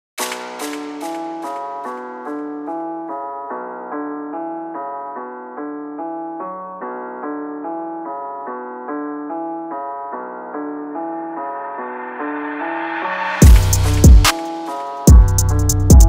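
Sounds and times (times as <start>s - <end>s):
keyboard melody: 0.2s - 16.0s.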